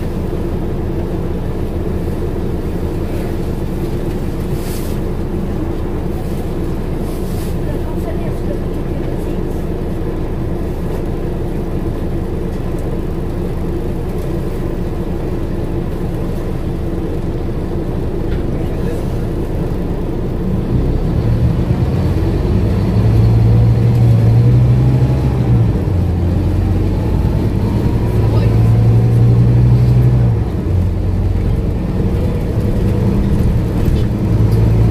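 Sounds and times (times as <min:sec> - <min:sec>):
bus diesel engine rumbling: 0:00.0 - 0:34.9.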